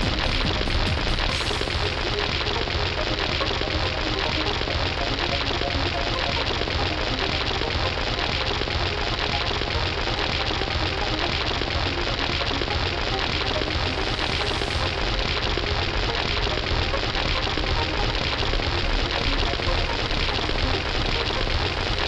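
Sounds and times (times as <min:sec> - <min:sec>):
dense crackling hiss: 0:00.0 - 0:22.0.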